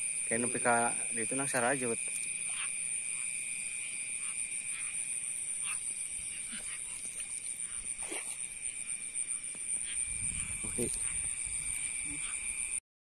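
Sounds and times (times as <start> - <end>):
high-pitched insect drones: 0.0 - 12.8
short frog calls: 0.0 - 12.8.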